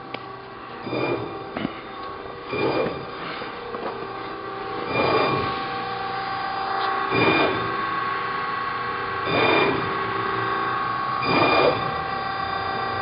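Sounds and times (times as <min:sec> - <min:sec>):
hydraulic press machine hum: 0:00.0 - 0:13.0.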